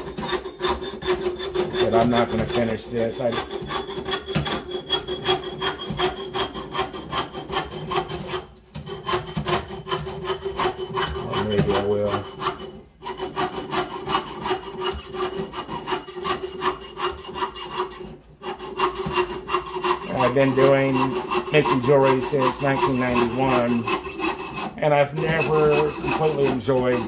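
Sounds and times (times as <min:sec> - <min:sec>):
saw cutting sheet metal: 0:00.0 - 0:27.0.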